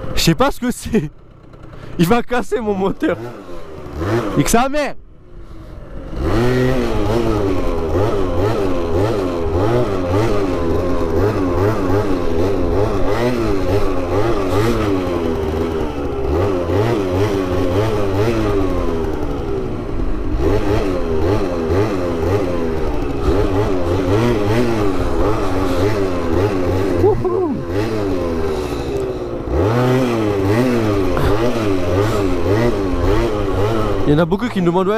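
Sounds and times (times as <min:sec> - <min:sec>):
scooter engine revving: 0:00.8 - 0:34.9.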